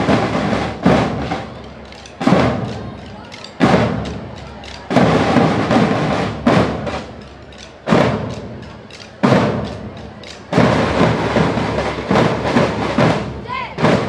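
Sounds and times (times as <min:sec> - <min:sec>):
marching side drums: 0:00.0 - 0:14.0.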